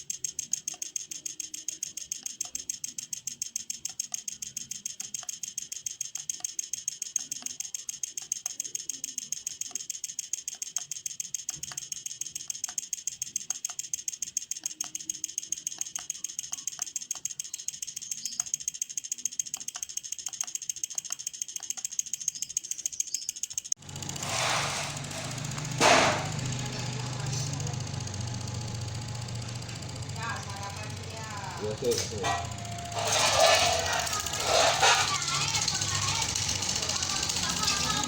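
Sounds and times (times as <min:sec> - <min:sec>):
welding machine pulsing ticking: 0:00.0 - 0:38.0.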